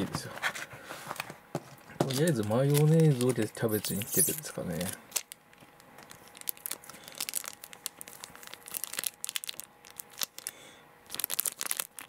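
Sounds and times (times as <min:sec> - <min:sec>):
plastic packet crinkling: 0:02.0 - 0:12.0.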